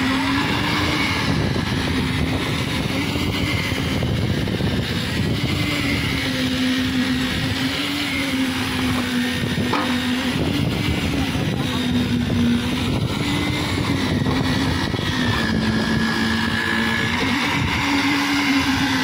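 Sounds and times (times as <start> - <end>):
concrete mixer engine running: 0.0 - 19.0.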